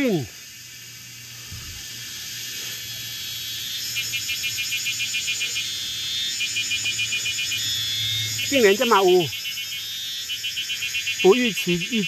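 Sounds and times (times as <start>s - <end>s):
high-pitched insect buzz: 0.0s - 12.0s
small animal pulsed chirping: 0.0s - 12.0s.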